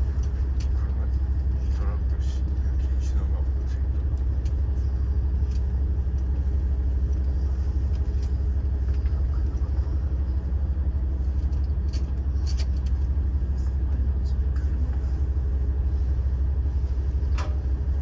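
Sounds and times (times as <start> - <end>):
train engines idling rumble: 0.0 - 18.0.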